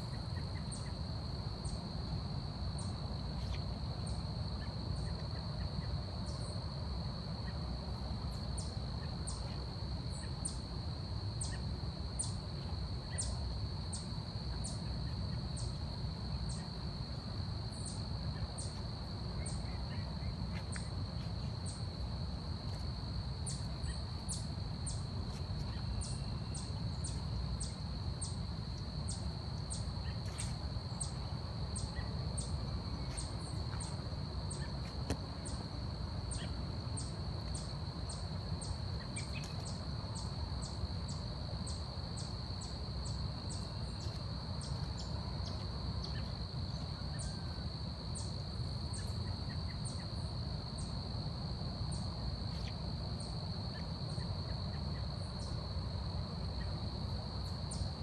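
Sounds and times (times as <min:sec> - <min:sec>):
sharp high insect chirp: 0:07.4 - 0:58.0.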